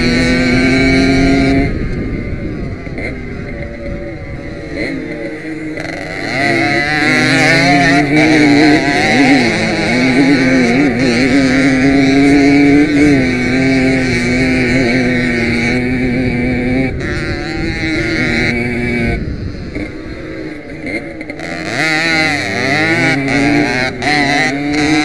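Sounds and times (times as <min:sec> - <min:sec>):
two-stroke moped engine revving: 0:00.0 - 0:25.0.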